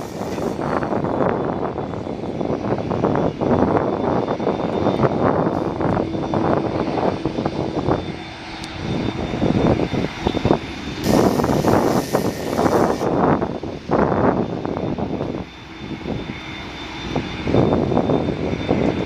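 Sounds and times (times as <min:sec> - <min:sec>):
airliner engine rush: 0:00.0 - 0:19.0.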